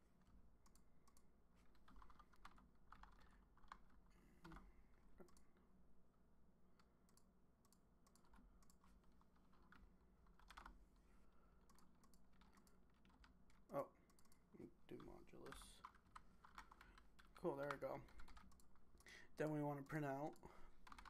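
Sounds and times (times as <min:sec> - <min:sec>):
faint keyboard typing: 0:00.0 - 0:05.7, 0:06.7 - 0:21.0.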